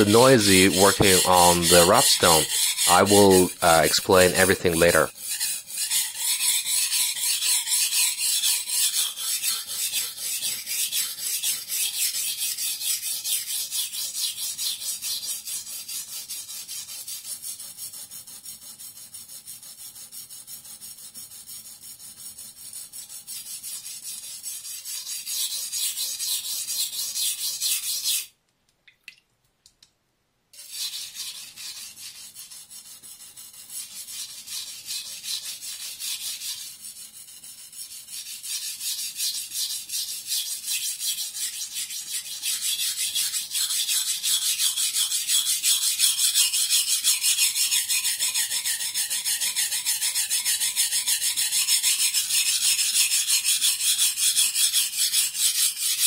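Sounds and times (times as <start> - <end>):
knife scraping on whetstone: 0.0 - 28.3, 30.6 - 56.0.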